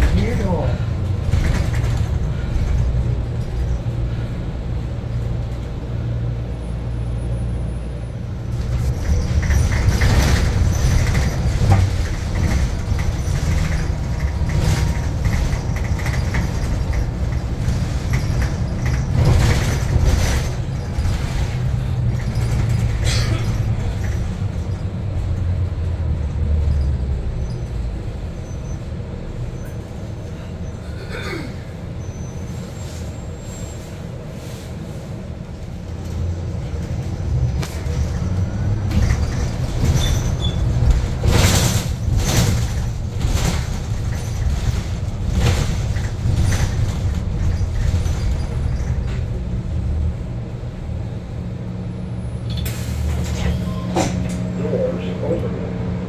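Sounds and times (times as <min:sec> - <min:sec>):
bus road and drivetrain rumble: 0:00.0 - 0:56.0.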